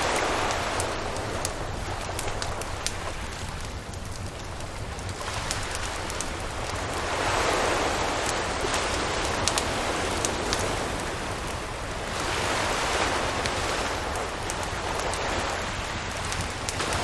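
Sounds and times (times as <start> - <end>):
campfire crackling and popping: 0.0 - 17.0
surf washing onto beach: 0.0 - 17.0.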